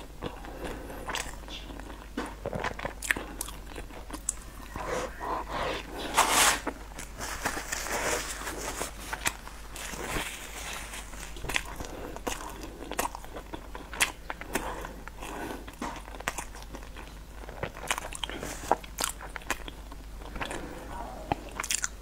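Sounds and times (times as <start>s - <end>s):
chewing crunchy cookie: 0.0s - 22.0s.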